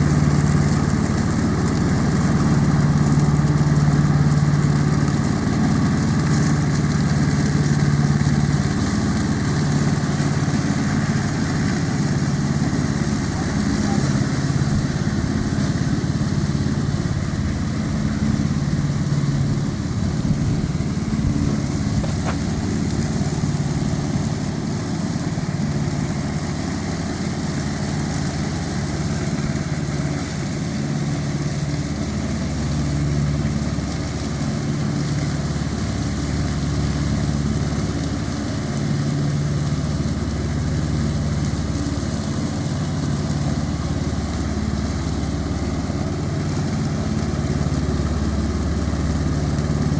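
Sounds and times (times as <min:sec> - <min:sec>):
tractor engine droning: 0:00.0 - 0:49.9.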